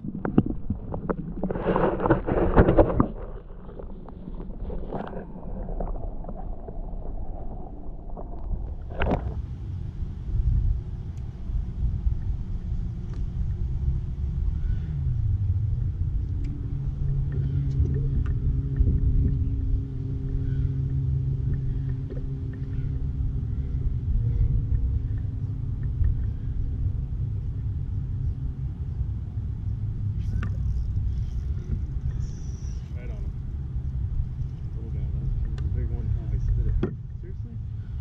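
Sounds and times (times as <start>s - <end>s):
continuous rumble: 0.0s - 38.0s
low motor hum: 0.0s - 38.0s.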